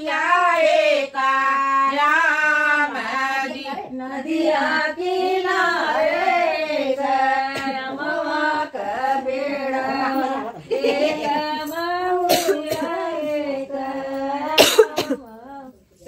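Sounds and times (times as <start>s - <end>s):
women singing folk song: 0.0s - 16.0s.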